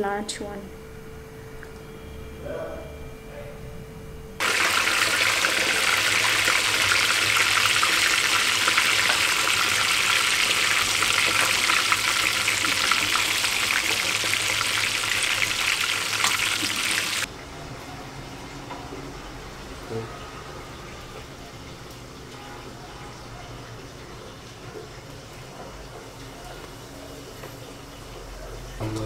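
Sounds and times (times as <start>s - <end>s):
hot oil sizzling and crackling: 4.4s - 29.0s.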